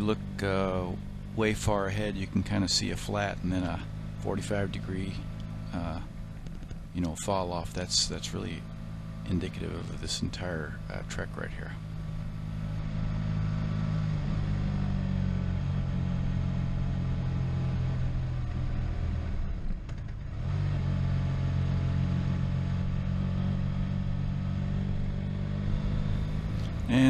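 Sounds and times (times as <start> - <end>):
motorcycle engine under load: 0.0 - 27.0.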